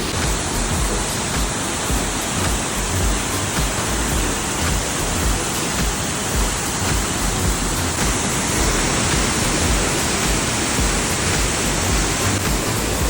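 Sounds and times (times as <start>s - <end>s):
waterfall rushing with low rumble: 0.0s - 13.0s.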